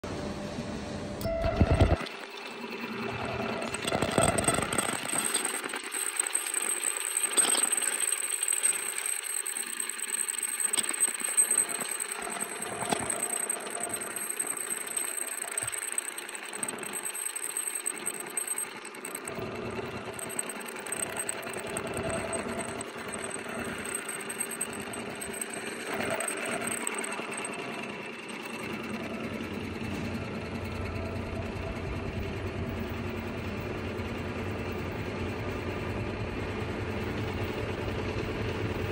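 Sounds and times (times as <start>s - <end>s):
label cutting machine running: 1.2s - 38.9s.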